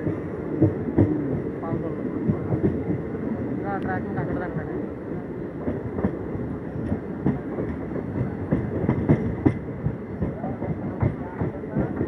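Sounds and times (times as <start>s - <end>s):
train wheels clattering on track: 0.0s - 4.8s, 5.5s - 12.0s.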